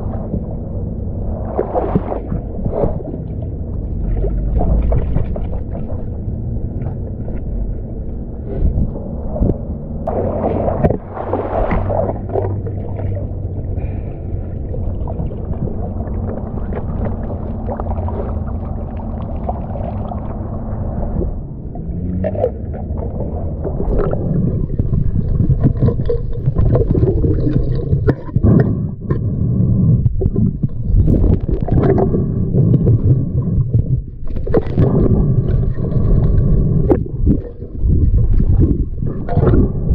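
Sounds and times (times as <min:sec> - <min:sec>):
muffled underwater gurgling: 0:00.0 - 0:39.9
underwater knocks and scrapes: 0:00.0 - 0:39.9
water splashing around fins: 0:01.2 - 0:07.5, 0:08.5 - 0:39.9.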